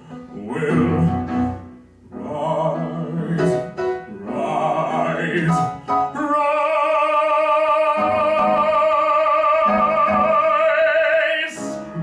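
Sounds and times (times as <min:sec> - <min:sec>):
man singing long high note: 0:00.1 - 0:12.0.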